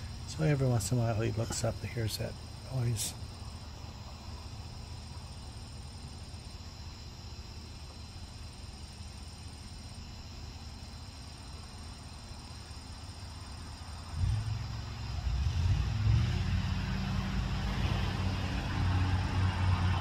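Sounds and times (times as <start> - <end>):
distant lawnmower engine drone: 0.0 - 20.0
insect chorus chirring: 0.0 - 20.0.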